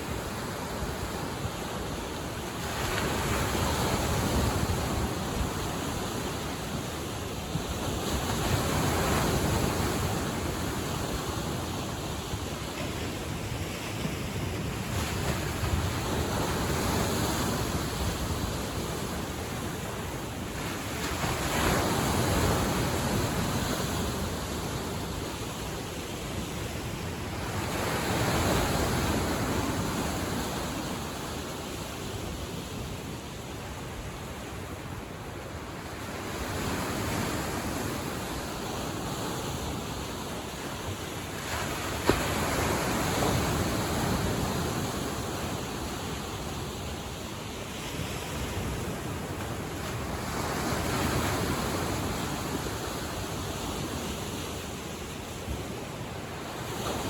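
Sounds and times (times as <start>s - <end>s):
waves washing onto shore: 0.0s - 57.0s.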